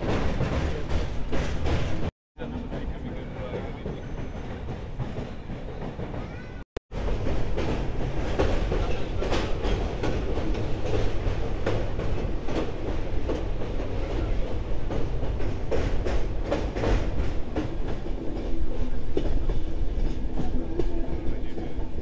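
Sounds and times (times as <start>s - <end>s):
train low rumble: 0.0s - 22.0s
train wheels clacking on rails: 0.0s - 22.0s.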